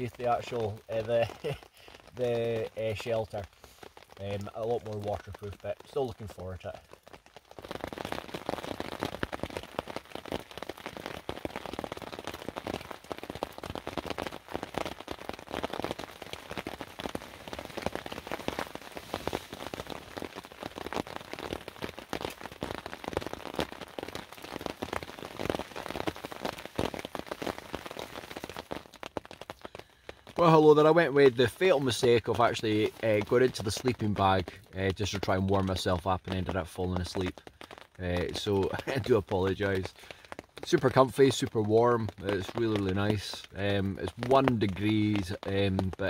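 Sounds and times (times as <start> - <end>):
rain on a tarp: 0.0 - 46.0.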